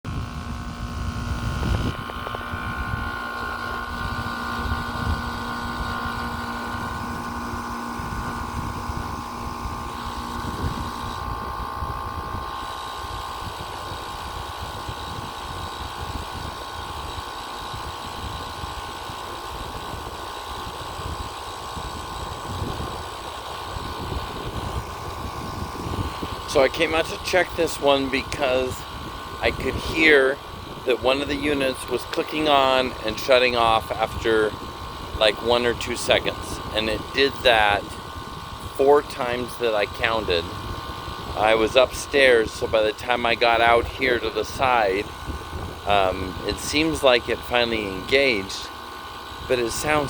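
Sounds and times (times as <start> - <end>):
air conditioner unit humming: 0.1 - 50.0.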